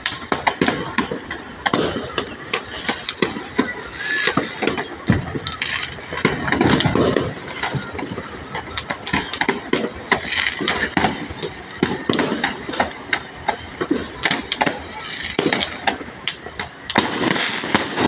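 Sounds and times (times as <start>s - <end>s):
fireworks bangs and cracks: 0.0s - 18.0s
people's voices: 0.0s - 18.0s.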